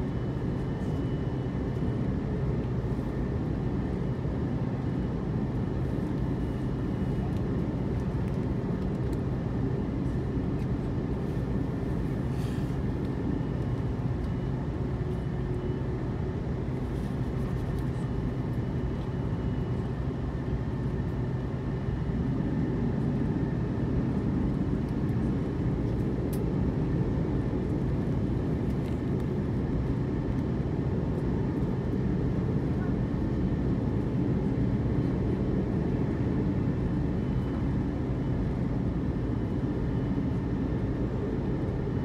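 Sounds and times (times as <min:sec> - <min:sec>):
airplane cabin rumble and hum: 0:00.0 - 0:42.0.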